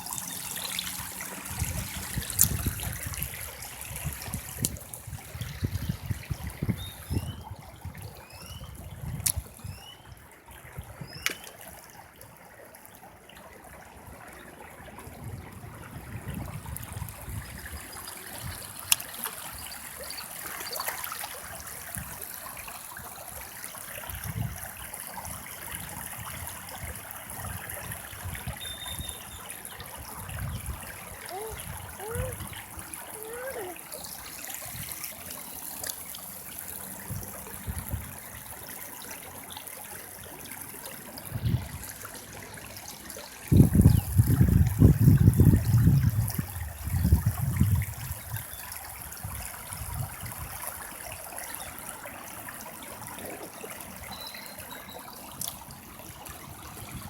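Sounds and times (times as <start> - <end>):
river water flowing and trickling: 0.0 - 57.0.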